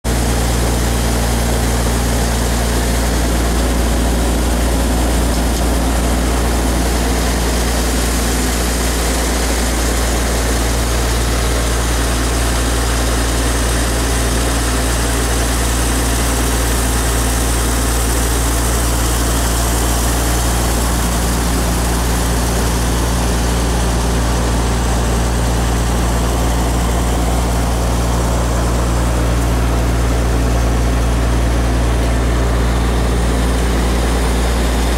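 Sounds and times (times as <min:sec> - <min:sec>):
generator engine humming: 0:00.0 - 0:34.9.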